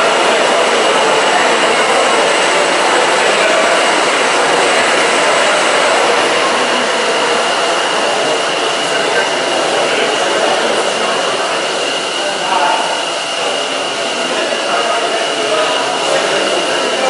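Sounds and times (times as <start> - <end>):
rushing water and machinery: 0.0 - 17.0.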